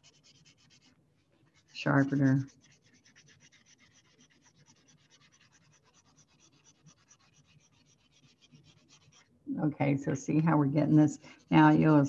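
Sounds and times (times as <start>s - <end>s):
blending stump scratching on paper: 0.0s - 9.3s, 10.8s - 12.0s.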